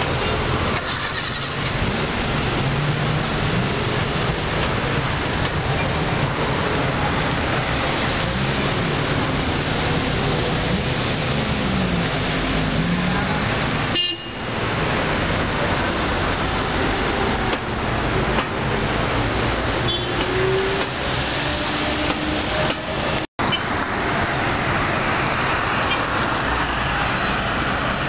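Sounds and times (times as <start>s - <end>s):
car engines: 0.0s - 28.0s
road noise: 0.0s - 28.0s.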